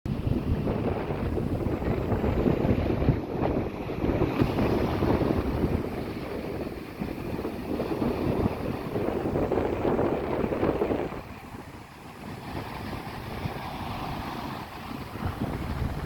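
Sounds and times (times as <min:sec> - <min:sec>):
wind buffeting microphone: 0:00.0 - 0:16.0
sea noise: 0:00.1 - 0:16.0.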